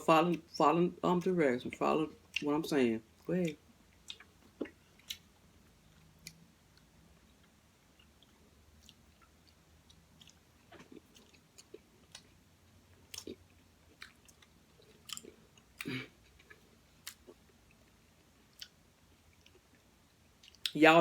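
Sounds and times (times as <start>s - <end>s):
soft chewing: 1.1s - 20.8s.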